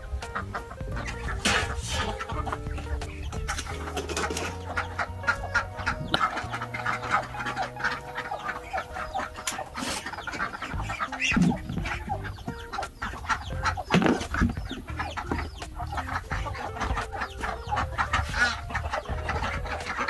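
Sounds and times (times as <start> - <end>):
background music: 0.0 - 20.0
chickens clucking: 0.0 - 20.0.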